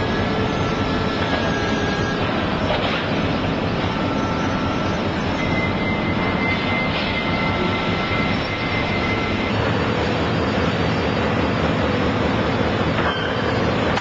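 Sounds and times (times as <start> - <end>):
faint high whines: 0.0 - 14.0
forklift running: 0.0 - 14.0.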